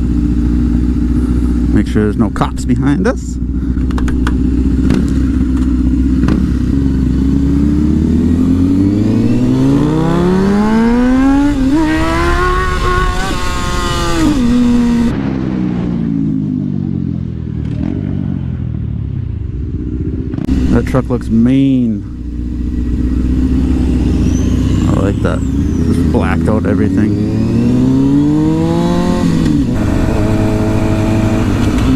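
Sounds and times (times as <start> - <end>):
motorcycle engine accelerating: 0.0 - 31.9.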